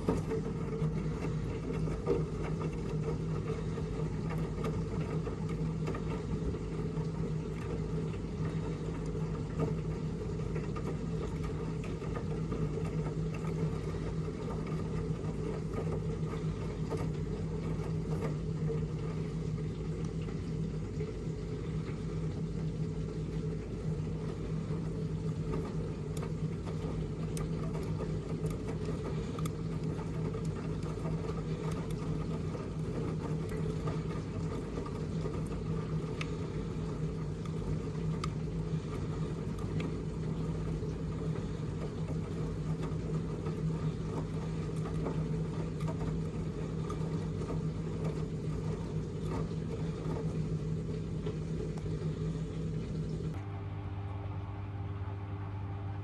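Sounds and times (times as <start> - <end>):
washing machine humming and whirring: 0.0 - 56.0.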